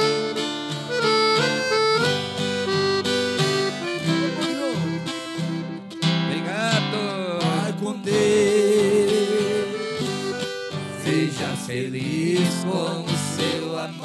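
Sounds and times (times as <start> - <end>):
acoustic guitar ballad: 0.0 - 14.0.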